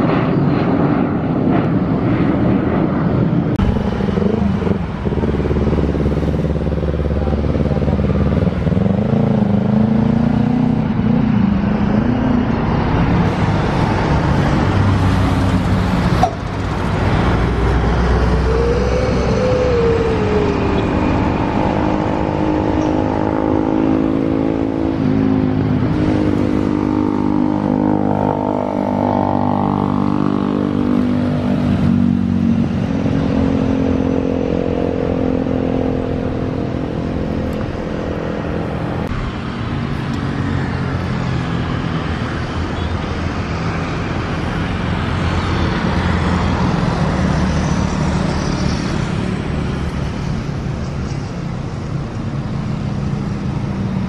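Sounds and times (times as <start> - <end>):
jet engines whining at taxi: 0.0 - 54.0.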